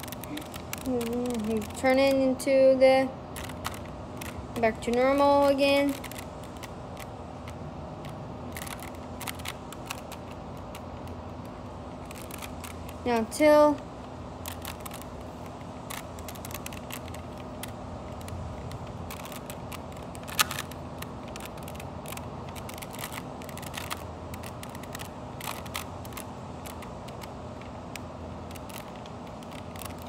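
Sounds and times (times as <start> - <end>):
plastic puzzle cube clicking: 0.0 - 2.2, 3.3 - 13.0, 14.4 - 30.0.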